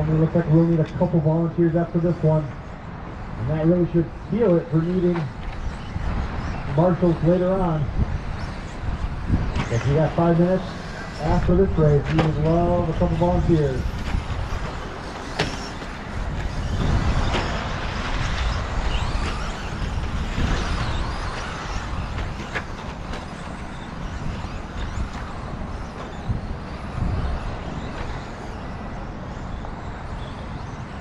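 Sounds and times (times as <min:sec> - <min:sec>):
rc trucks racing: 0:00.0 - 0:31.0.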